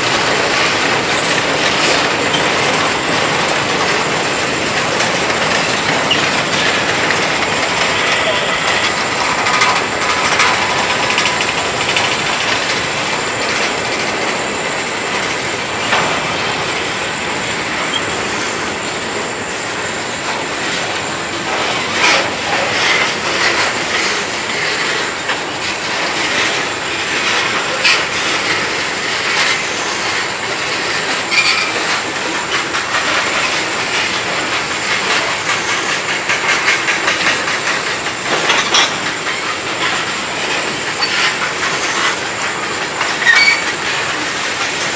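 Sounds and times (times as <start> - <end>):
train wheels clicking over rail joints: 0.0 - 44.9.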